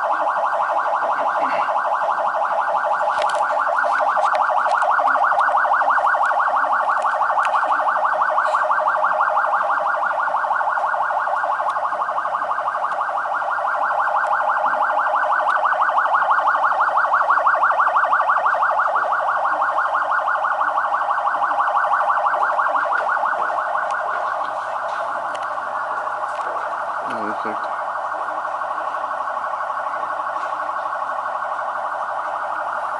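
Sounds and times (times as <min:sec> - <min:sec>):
electronic siren pulsing tone: 0:00.0 - 0:32.9.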